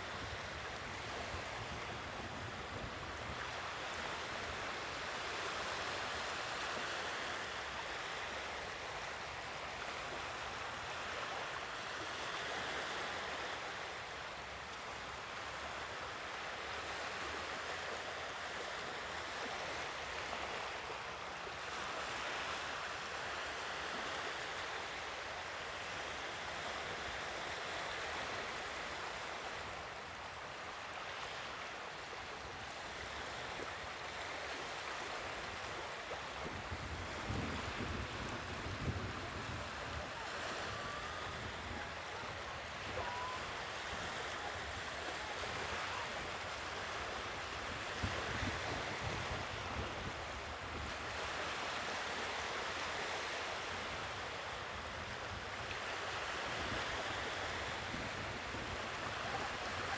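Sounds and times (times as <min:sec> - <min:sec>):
sea waves washing onto shore: 0:00.0 - 0:59.9.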